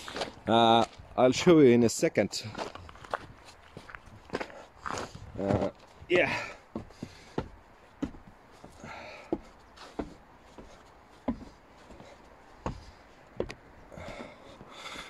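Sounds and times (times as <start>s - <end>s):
footsteps on wooden stairs: 2.5s - 15.0s.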